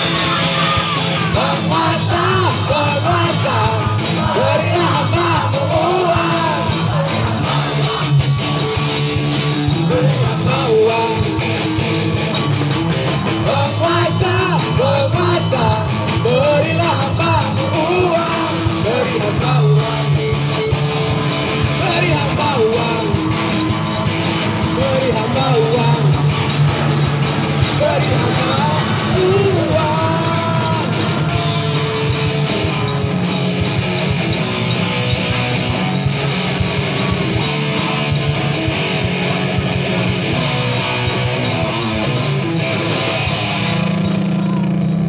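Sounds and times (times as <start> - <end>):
voices singing along: 0.0 - 12.3, 13.2 - 40.7
live rock band playing: 0.0 - 45.0.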